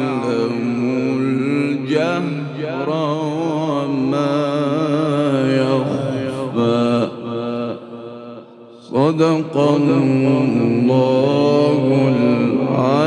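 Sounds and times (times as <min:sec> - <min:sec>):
man chanting melodic recitation: 0:00.0 - 0:13.0.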